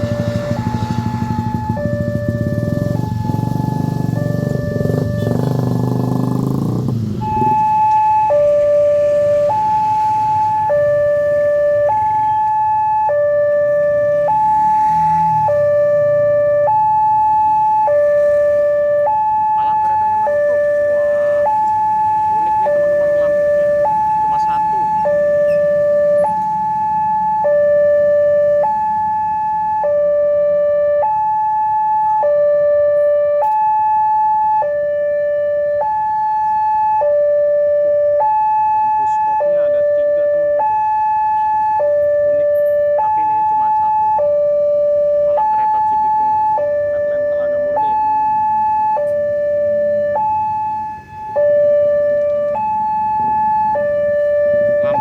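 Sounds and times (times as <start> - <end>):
level-crossing two-tone alarm: 0.0 - 55.0.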